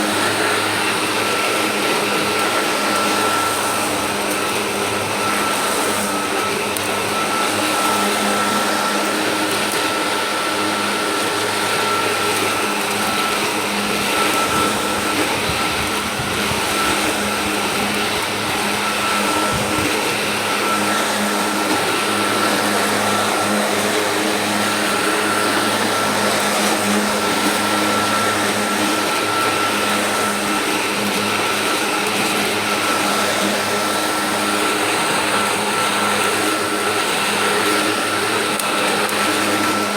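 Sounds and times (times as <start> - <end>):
electric lawnmower whining: 0.0 - 39.9.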